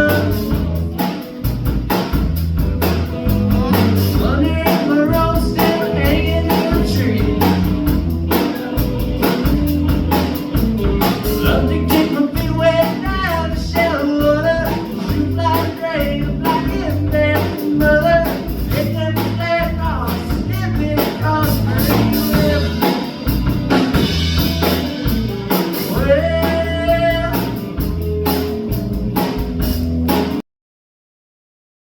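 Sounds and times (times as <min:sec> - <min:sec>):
person singing: 0:00.0 - 0:01.4, 0:03.2 - 0:23.4, 0:24.0 - 0:28.6
live band playing: 0:00.0 - 0:30.4.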